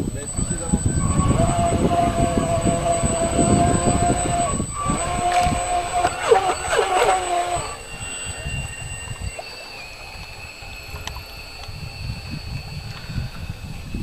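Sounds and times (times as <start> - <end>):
model boat motor whining: 0.0 - 14.0
wind rumble on microphone: 0.0 - 14.0.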